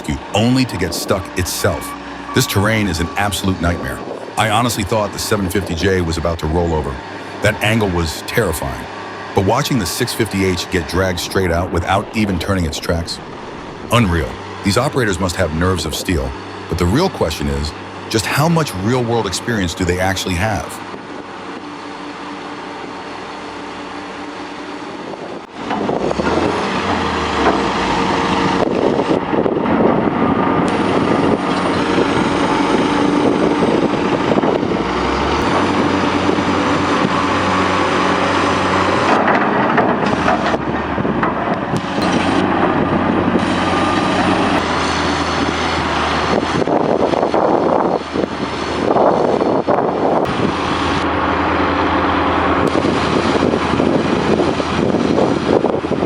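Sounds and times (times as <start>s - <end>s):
diesel machinery engine running: 0.0s - 56.0s
rough machine noise: 0.0s - 56.0s.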